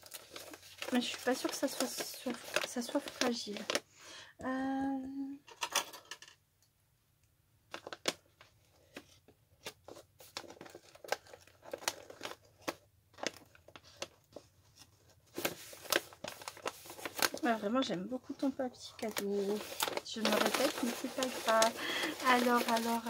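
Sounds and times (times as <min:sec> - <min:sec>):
gift-wrap paper crinkling: 0:00.0 - 0:03.8, 0:07.7 - 0:23.0.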